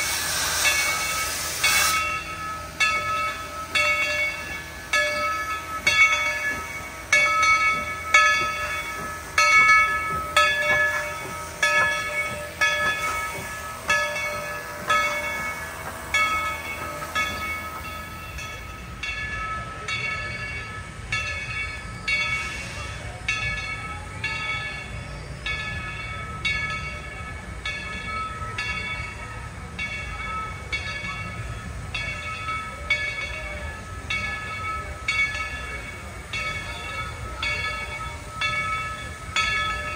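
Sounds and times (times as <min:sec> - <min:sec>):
low rumble of running train: 0:00.0 - 0:39.9
steam locomotive bell ringing: 0:00.0 - 0:39.9.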